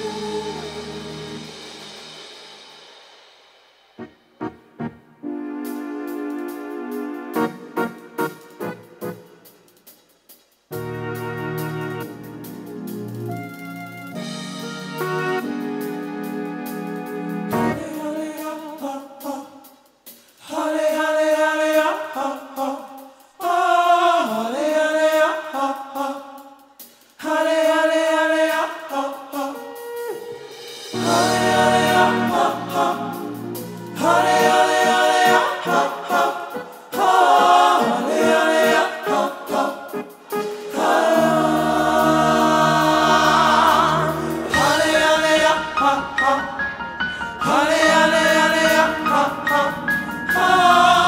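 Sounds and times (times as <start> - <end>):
gospel singing voices: 0.0 - 2.7, 11.5 - 51.0.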